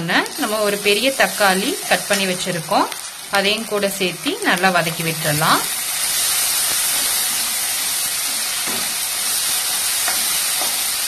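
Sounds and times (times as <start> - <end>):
onions and tomatoes sizzling in oil: 0.0 - 11.0.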